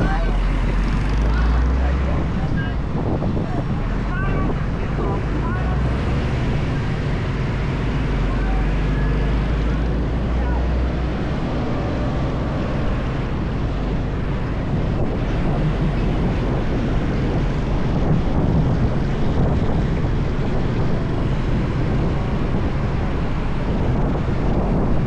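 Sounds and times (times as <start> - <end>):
motorbike engine: 0.0 - 24.2
road noise: 0.0 - 25.0
wind rushing over microphone: 0.0 - 25.0.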